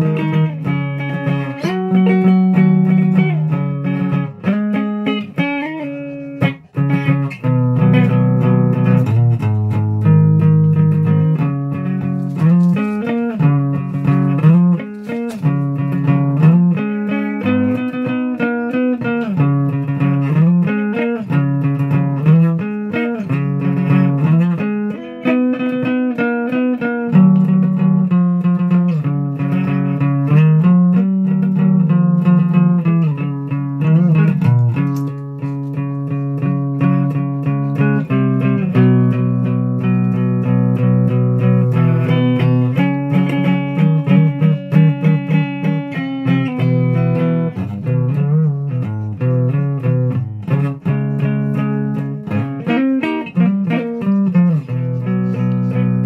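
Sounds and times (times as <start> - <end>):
guitar plucked notes: 0.0 - 56.0.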